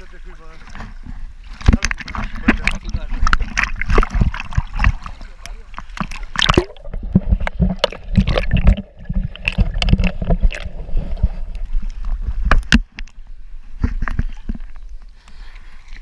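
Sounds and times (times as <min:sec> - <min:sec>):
underwater churning and gurgling: 0:00.0 - 0:16.0
sharp underwater knocks and clicks: 0:00.7 - 0:15.4.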